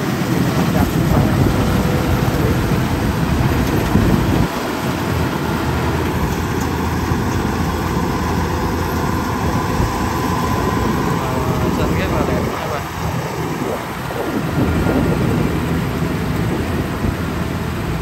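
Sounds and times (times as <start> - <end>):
combine harvester machinery drone: 0.0 - 18.0.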